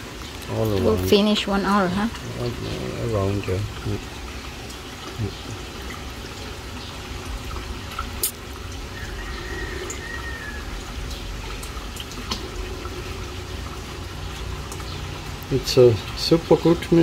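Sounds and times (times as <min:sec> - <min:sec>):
low steady hum: 0:00.0 - 0:17.0
pool water trickling and lapping: 0:00.0 - 0:17.0.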